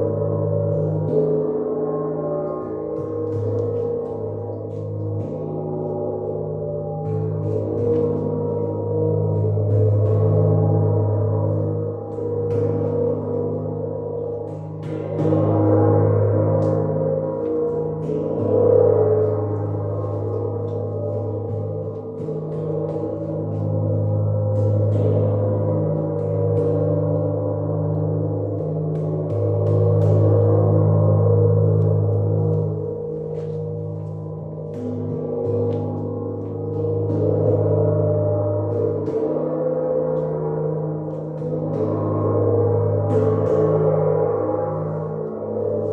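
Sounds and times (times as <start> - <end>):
gong wash with overtones: 0.0 - 45.9.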